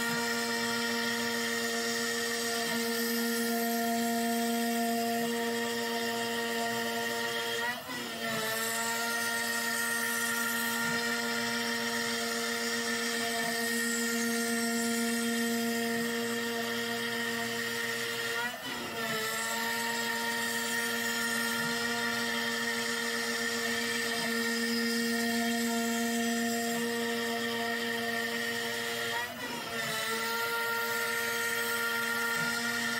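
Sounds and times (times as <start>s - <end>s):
router spindle whining: 0.0s - 32.9s.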